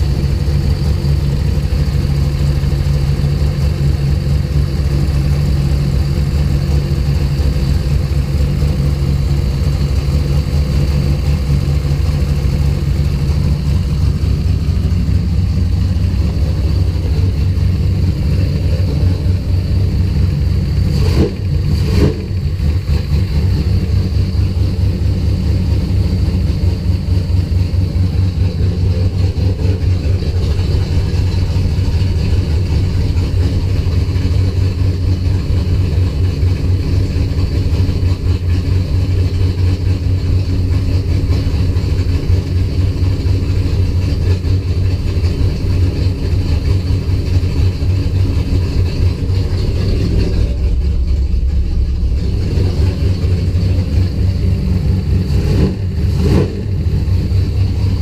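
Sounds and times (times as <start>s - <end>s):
car engine rough idle: 0.0s - 58.0s.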